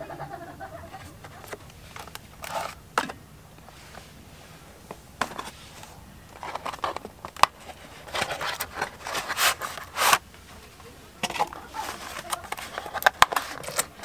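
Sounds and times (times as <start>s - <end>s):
plastic tray scraping and rustling: 0.9s - 14.0s.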